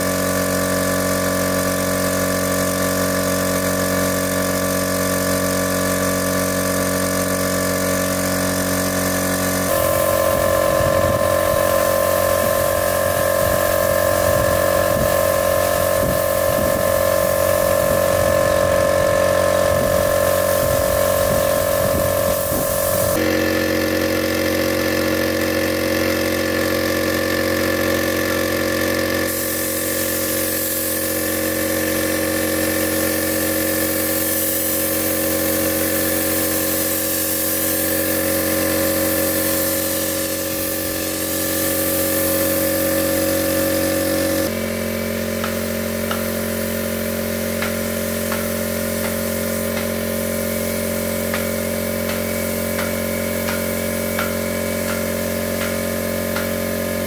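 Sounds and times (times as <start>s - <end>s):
engine-driven machine running: 0.0s - 57.0s.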